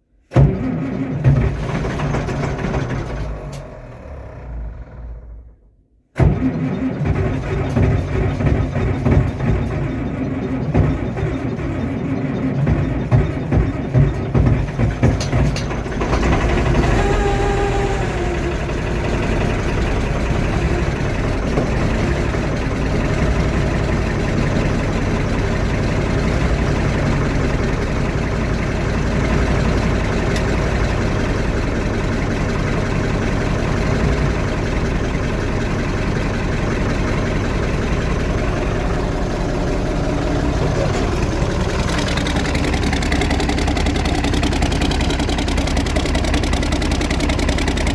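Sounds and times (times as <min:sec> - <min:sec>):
diesel engine starting and idling: 0:00.0 - 0:47.9.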